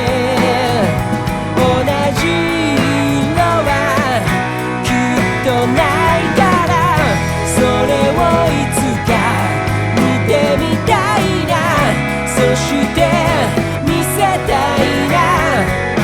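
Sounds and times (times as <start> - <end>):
melodic lead guitar line: 0.0 - 16.0
pop-rock band music: 0.0 - 16.0.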